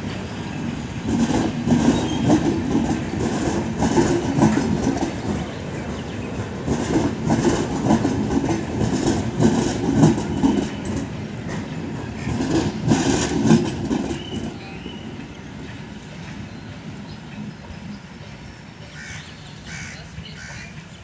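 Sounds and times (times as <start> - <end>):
train wheels clattering over rail joints: 0.0 - 18.1.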